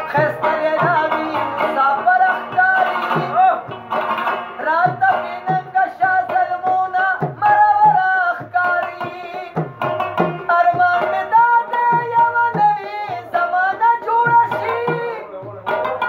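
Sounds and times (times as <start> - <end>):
man singing: 0.0 - 3.8, 4.5 - 16.0
tabla playing: 0.0 - 16.0.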